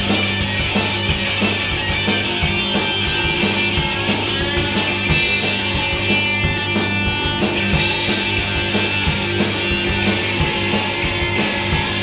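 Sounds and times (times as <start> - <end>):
held electric guitar chords: 0.0 - 12.0
rock band playing live: 0.0 - 12.0
steady drum beat: 0.0 - 12.0.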